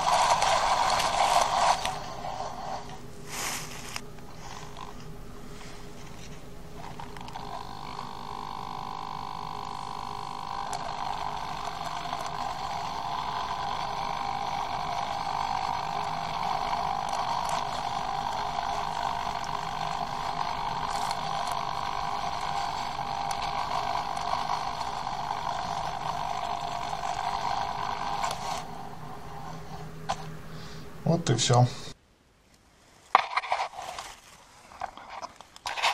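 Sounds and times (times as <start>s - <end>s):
servos whining: 0.0s - 32.0s.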